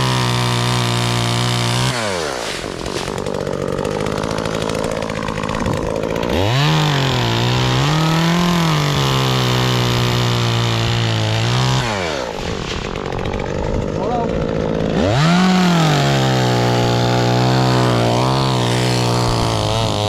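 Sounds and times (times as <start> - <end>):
chainsaw revving and idling: 0.0 - 20.0.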